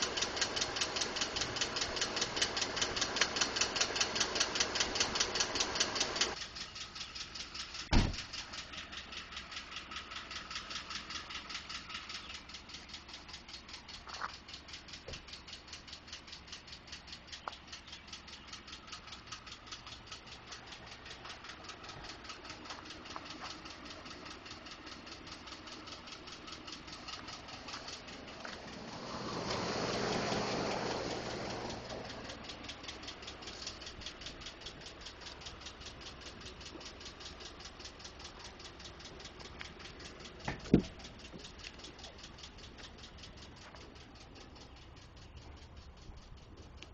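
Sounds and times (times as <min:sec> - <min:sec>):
engine idling: 0:00.0 - 0:46.9
rapid engine ticking knock: 0:00.0 - 0:46.9.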